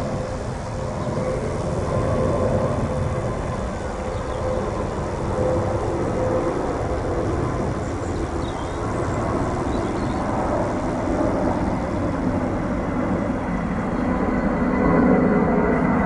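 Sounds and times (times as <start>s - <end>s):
model plane electric motor and propeller: 0.0s - 16.0s.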